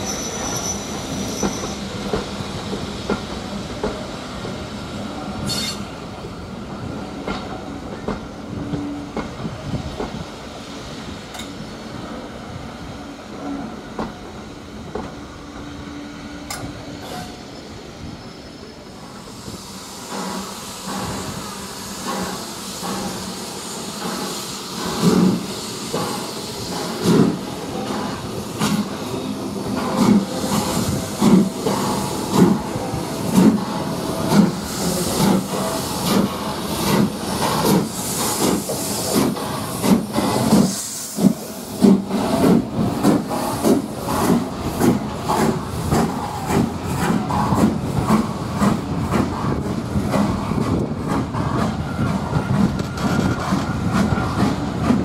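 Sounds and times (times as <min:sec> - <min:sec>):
steam hiss: 0:00.0 - 0:55.0.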